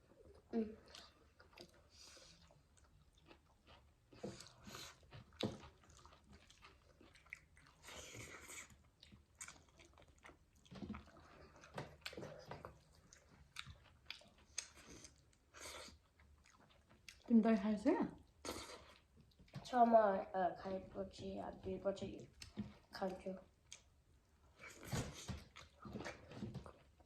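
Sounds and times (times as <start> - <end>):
chewing and crunching: 0.0 - 19.8, 21.6 - 27.0.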